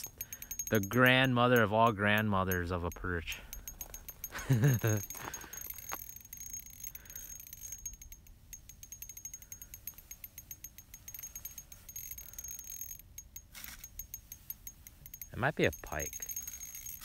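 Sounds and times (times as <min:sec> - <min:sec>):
fishing reel clicking: 0:00.0 - 0:01.0, 0:03.0 - 0:17.0.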